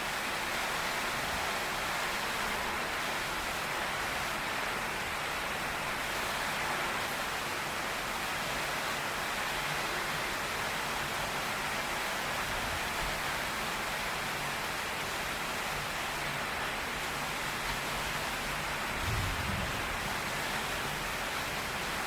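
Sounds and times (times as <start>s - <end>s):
heavy rain on a tin roof: 0.0s - 22.0s.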